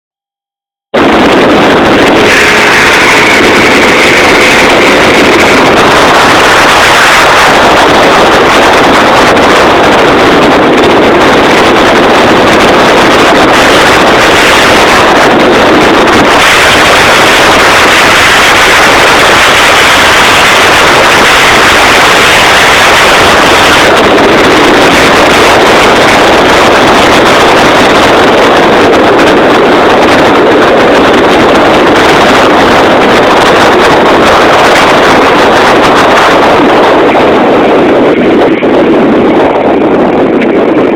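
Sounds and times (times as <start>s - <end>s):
motorboat motor and water rush: 0.9s - 40.9s
wind buffeting microphone: 0.9s - 40.9s.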